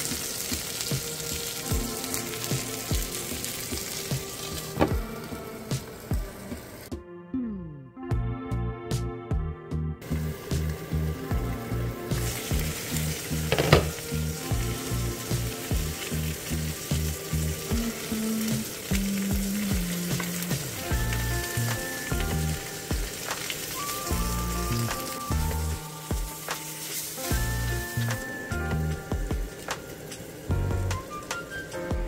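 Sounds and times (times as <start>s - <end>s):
food sizzling in a pan: 0.0s - 6.9s, 10.0s - 32.0s
background music with bass beat: 0.9s - 23.1s, 24.1s - 29.5s, 30.5s - 32.0s.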